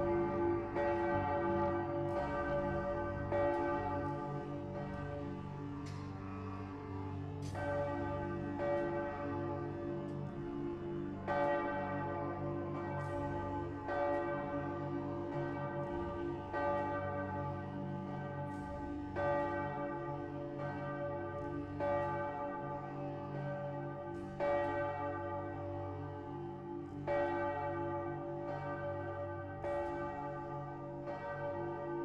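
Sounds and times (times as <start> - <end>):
church bell ringing: 0.0 - 6.4, 7.4 - 32.0.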